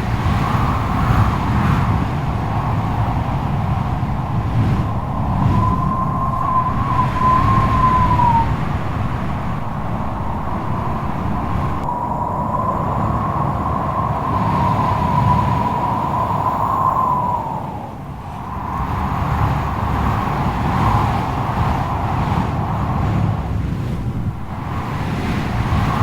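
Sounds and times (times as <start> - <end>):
strong wind rumbling: 0.0 - 26.0
wind howling: 0.0 - 26.0.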